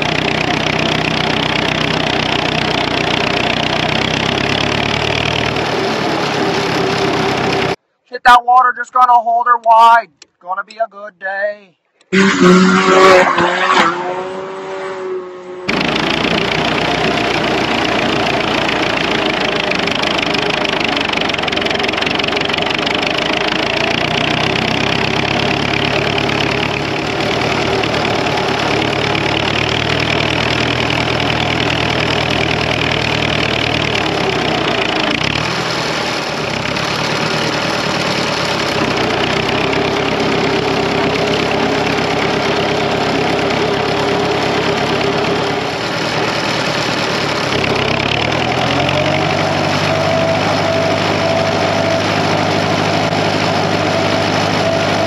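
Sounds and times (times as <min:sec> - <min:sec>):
tractor engine running: 0:00.0 - 0:14.6, 0:15.5 - 0:55.0.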